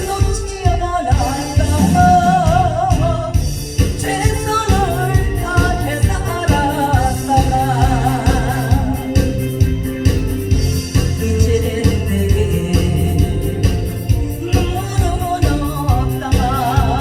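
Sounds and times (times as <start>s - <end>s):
person singing with vibrato: 0.0s - 9.9s, 11.2s - 17.0s
backing track with beat and bass: 0.0s - 17.0s.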